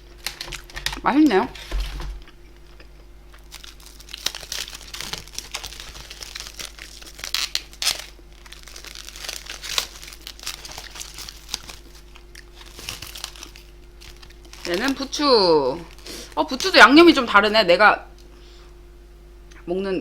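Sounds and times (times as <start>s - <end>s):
plastic packaging crinkling: 0.0s - 17.7s.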